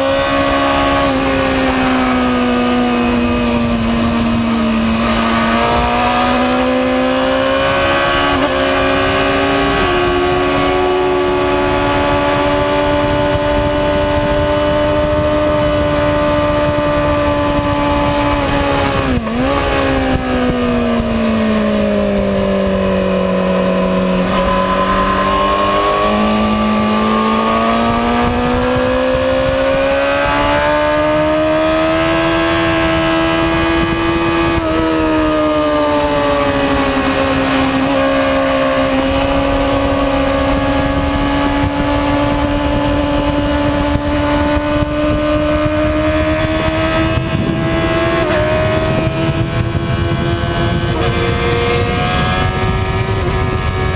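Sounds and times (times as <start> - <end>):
motorcycle engine revving: 0.0 - 53.9
wind rushing: 0.0 - 53.9.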